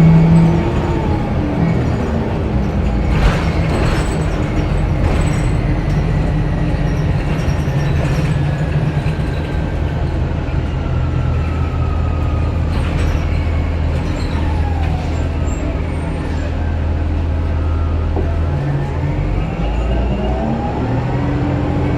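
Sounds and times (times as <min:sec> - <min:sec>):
bus engine drone: 0:00.0 - 0:21.9.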